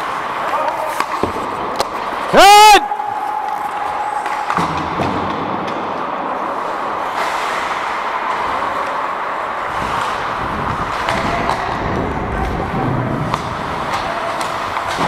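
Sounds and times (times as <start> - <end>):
skates scraping on ice: 0.0 - 15.0.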